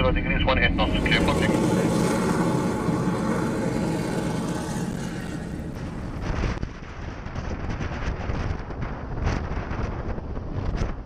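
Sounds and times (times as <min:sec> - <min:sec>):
jet engine drone: 0:00.0 - 0:11.0
wind gusts on microphone: 0:00.0 - 0:11.0.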